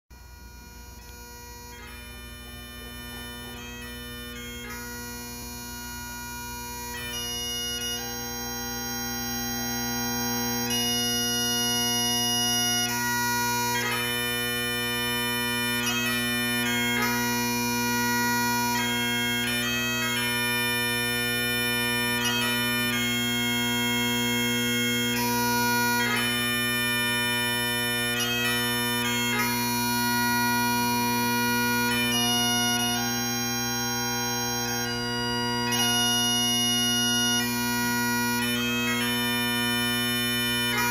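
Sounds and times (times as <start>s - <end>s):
bagpipe drone: 0.1s - 40.9s
bagpipes playing a tune: 0.1s - 40.9s.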